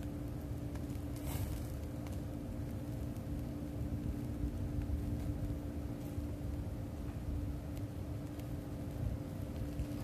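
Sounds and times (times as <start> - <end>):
steady low hum: 0.0 - 10.0
wind rumbling on microphone: 0.0 - 10.0.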